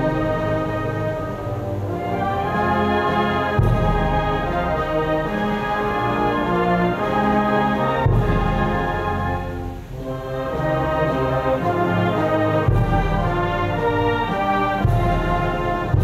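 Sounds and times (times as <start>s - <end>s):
brass chords: 0.0s - 16.0s
timpani: 0.0s - 16.0s.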